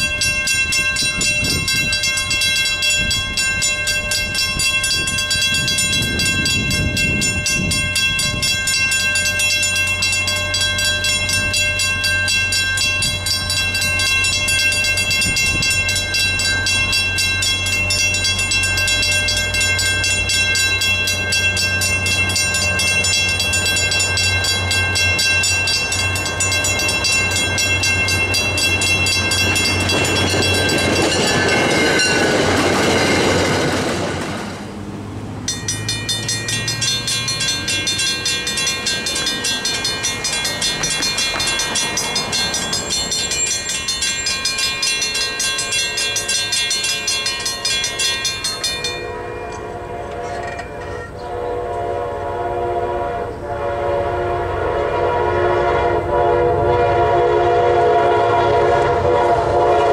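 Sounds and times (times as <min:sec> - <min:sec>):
railroad crossing bells ringing: 0:00.0 - 0:59.9
train passing: 0:00.0 - 0:59.9.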